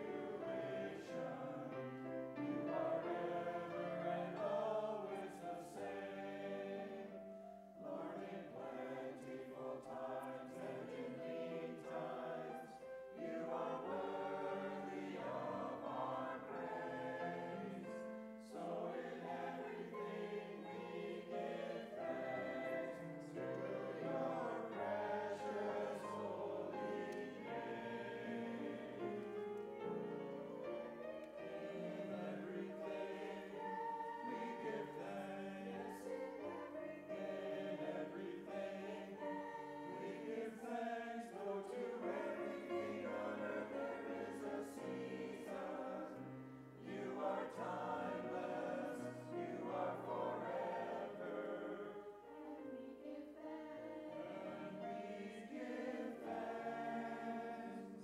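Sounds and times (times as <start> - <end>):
choir singing: 0.0 - 58.0
piano accompaniment: 0.0 - 58.0.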